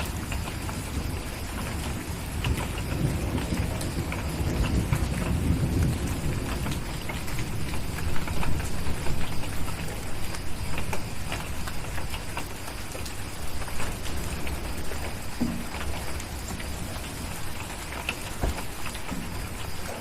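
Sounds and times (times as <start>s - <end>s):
low thunder rumble: 0.0s - 20.0s
sharp crackles: 0.0s - 20.0s
steady rain: 0.0s - 20.0s.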